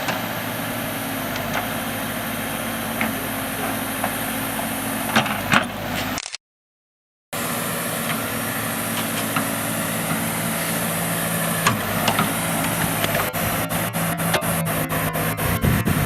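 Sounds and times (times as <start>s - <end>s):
diesel engine of heavy machinery: 0.0s - 6.2s, 7.4s - 16.0s.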